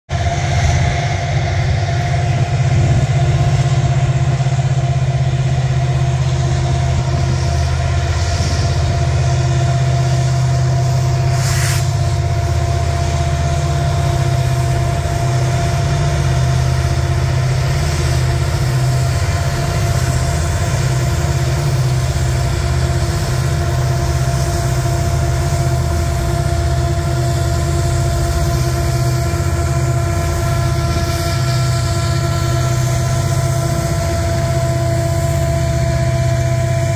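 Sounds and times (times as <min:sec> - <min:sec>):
diesel locomotive engines droning: 0:00.1 - 0:36.9
train cars rolling on rails: 0:00.1 - 0:36.9.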